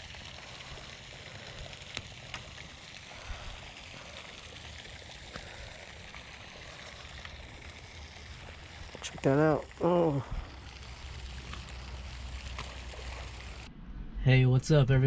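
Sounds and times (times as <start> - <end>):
water rushing: 0.0 - 13.7.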